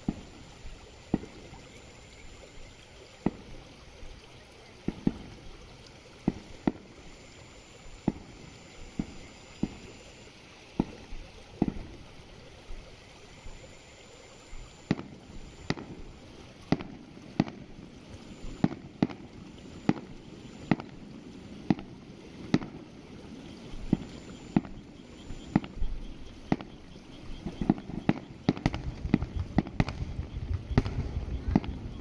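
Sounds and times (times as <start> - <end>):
fireworks bursting with sharp bangs: 0.0 - 32.0.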